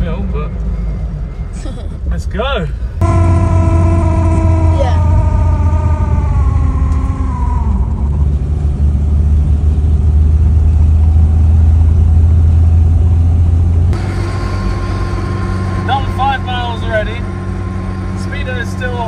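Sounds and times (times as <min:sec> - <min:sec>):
car engine accelerating: 0:03.0 - 0:19.0.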